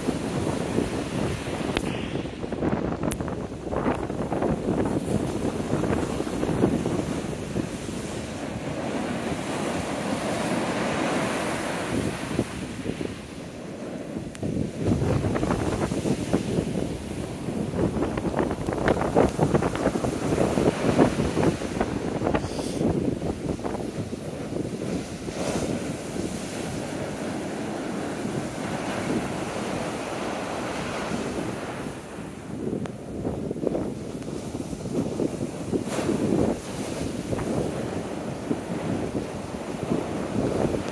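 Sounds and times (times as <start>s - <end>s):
heavy surf breaking: 0.0s - 40.9s
wind buffeting microphone: 0.0s - 40.9s.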